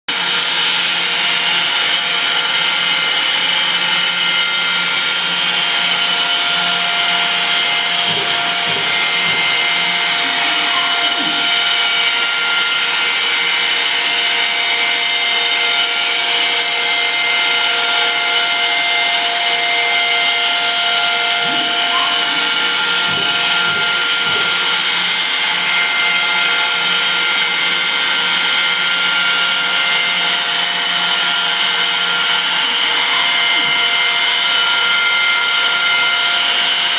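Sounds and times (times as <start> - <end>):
machine whine: 0.1 - 36.9.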